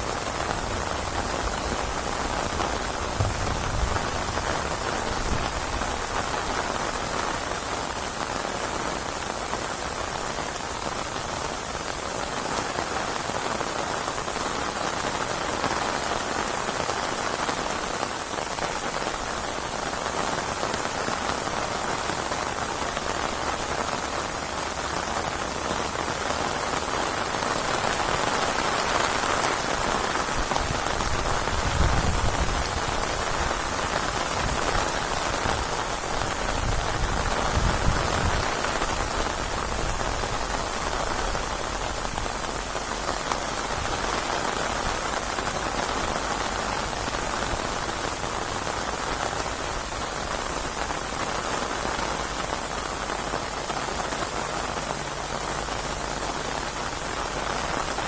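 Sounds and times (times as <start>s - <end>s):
rain falling on surfaces: 0.0s - 58.0s.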